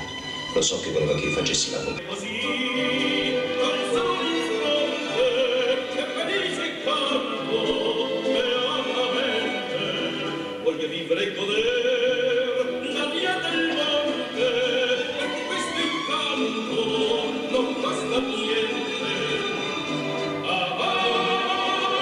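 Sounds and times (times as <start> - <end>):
operatic singing with accompaniment: 1.2 - 22.0.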